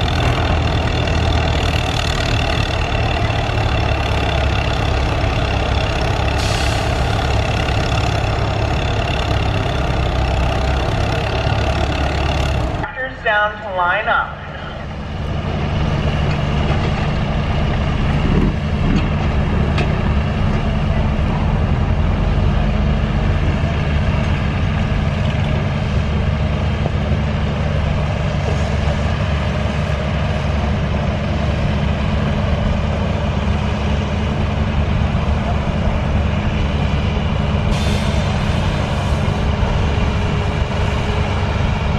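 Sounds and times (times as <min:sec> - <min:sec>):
tractor engine running: 0:00.0 - 0:13.5, 0:14.4 - 0:41.9.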